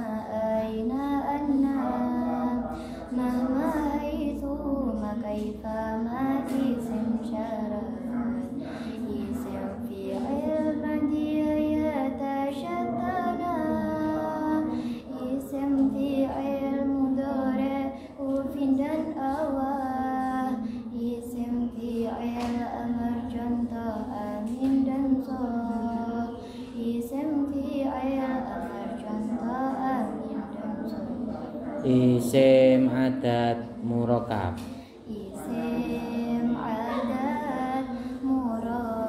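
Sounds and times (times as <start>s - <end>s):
girl chanting in sung melody: 0.0s - 33.7s, 34.3s - 39.0s.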